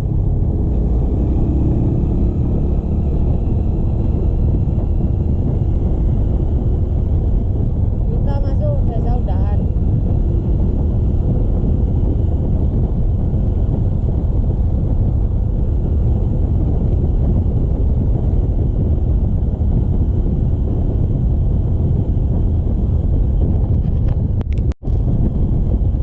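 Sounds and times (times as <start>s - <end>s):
motorcycle engine running: 0.0s - 26.0s
wind rush on microphone: 0.0s - 26.0s.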